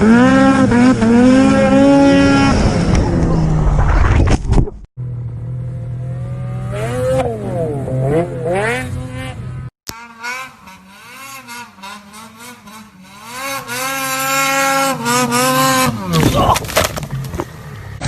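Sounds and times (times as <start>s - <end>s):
snowmobile engines revving: 0.0s - 3.4s, 5.7s - 18.0s.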